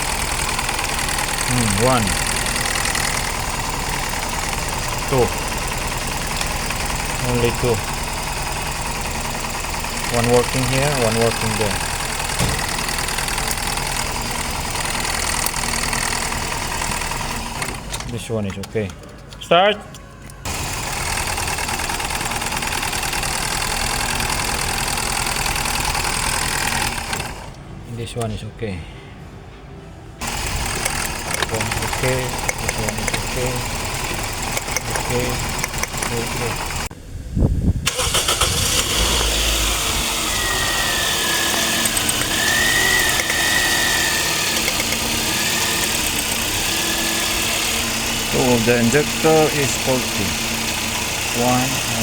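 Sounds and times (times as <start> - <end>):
car engine idling roughly: 0.0 - 17.9, 20.4 - 27.6, 30.2 - 36.9, 37.9 - 52.0.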